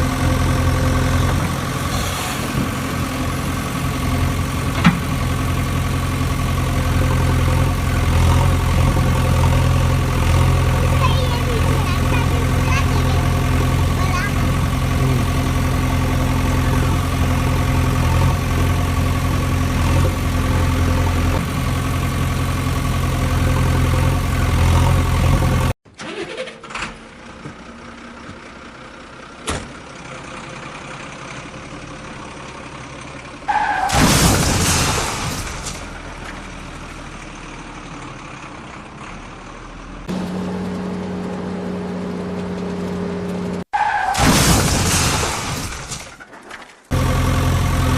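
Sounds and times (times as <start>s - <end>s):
vehicle engine running: 0.0s - 25.8s, 27.0s - 33.7s, 35.1s - 43.7s, 46.9s - 47.9s.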